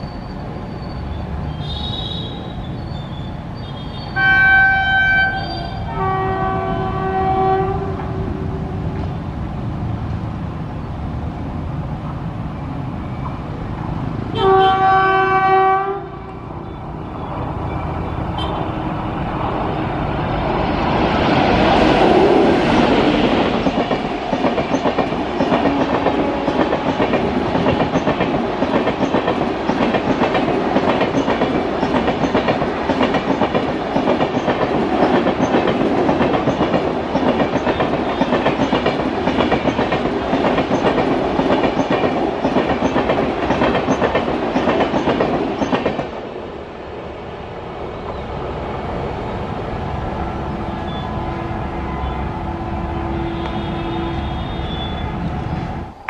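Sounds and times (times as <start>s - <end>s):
electric locomotive passing: 0.0s - 56.0s.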